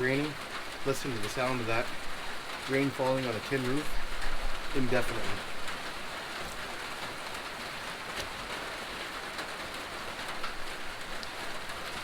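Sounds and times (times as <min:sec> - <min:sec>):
rain on a tin roof: 0:00.0 - 0:12.0.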